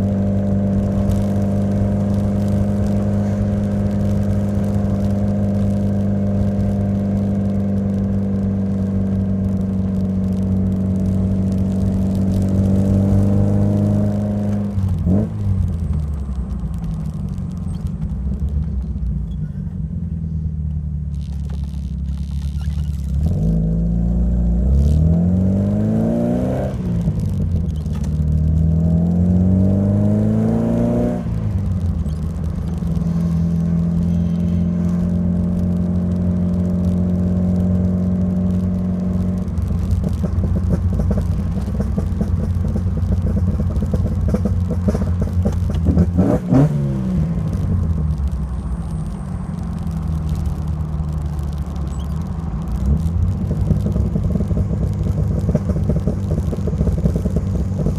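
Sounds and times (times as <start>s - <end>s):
car engine running and revving: 0.0s - 57.9s.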